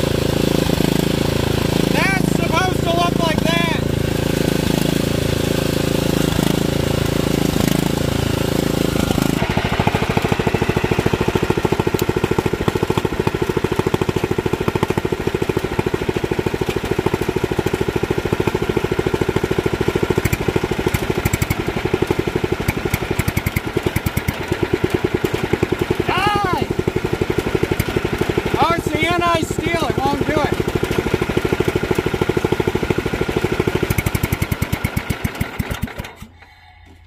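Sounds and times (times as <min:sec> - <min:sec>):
lawn tractor engine running: 0:00.0 - 0:37.0.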